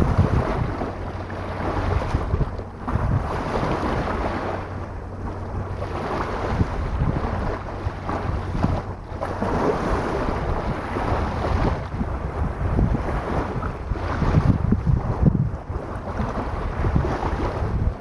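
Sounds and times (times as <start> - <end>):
sea waves washing onto shore: 0.0 - 18.0
wind buffeting microphone: 0.0 - 18.0.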